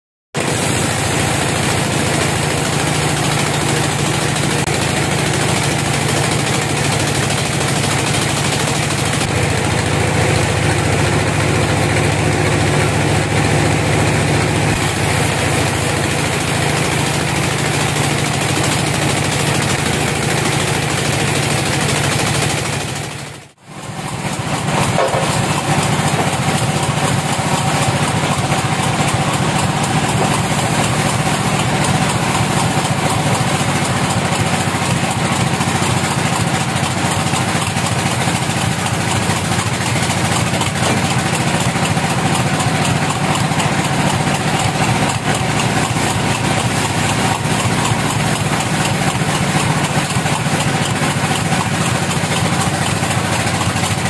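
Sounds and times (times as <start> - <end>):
band saw sawing a log: 0.4 - 54.0.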